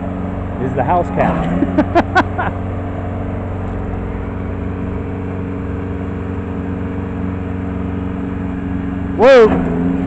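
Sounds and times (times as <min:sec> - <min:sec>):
crawler dozer engine running: 0:00.0 - 0:10.0.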